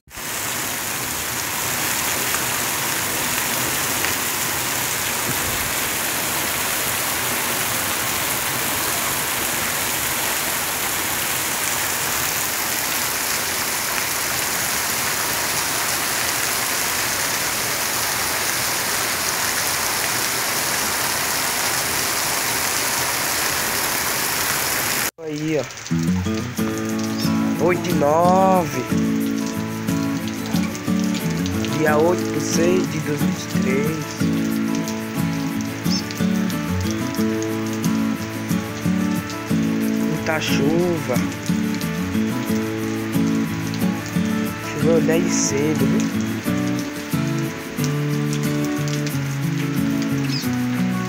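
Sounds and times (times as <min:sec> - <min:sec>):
rain falling on street: 0:00.1 - 0:51.0.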